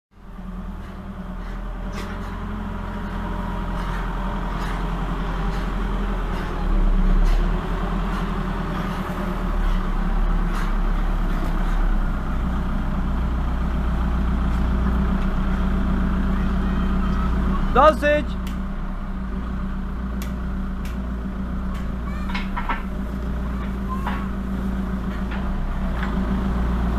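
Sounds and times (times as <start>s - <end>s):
diesel engine running: 0.1s - 26.9s.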